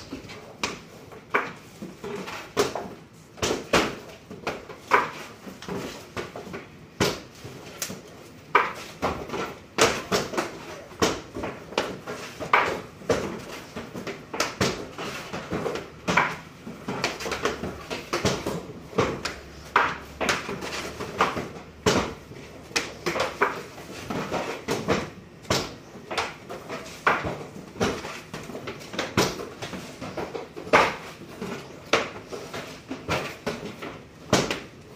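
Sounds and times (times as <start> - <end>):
wooden frames knocking and clattering: 0.0 - 34.9.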